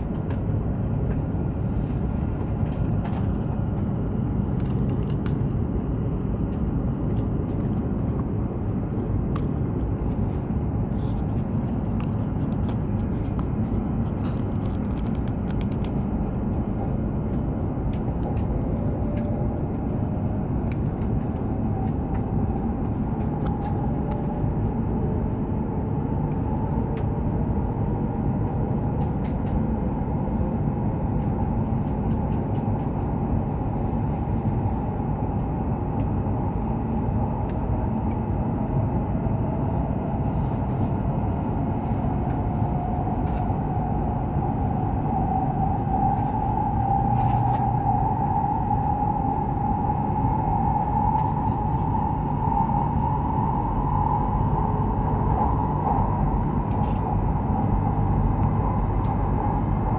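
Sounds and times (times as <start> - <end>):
train wheels and air rumble: 0.0 - 59.9.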